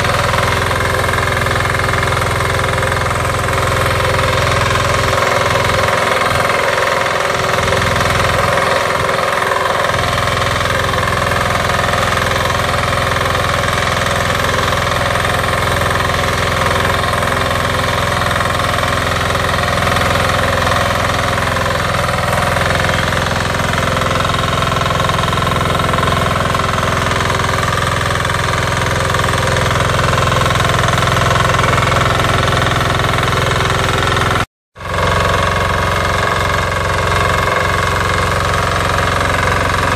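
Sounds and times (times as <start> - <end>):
tiller diesel engine running: 0.0 - 39.9
tines working through soil: 0.0 - 39.9.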